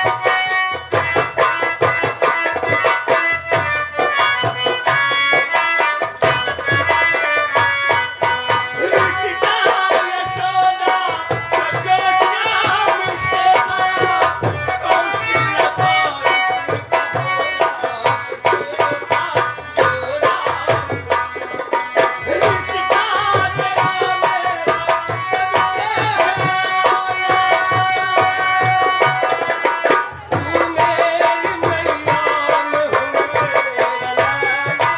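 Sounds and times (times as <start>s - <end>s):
hand drums fast rhythm: 0.0s - 34.9s.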